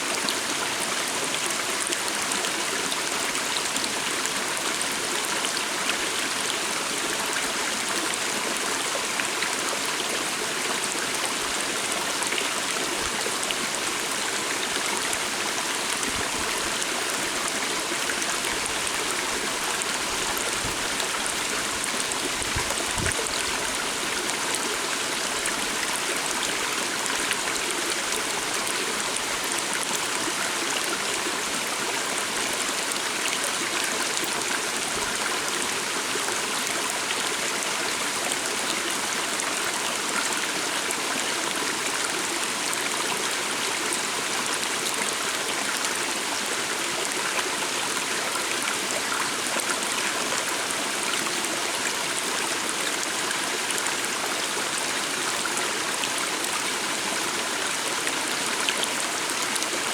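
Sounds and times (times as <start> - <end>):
water stream flowing: 0.0 - 59.9.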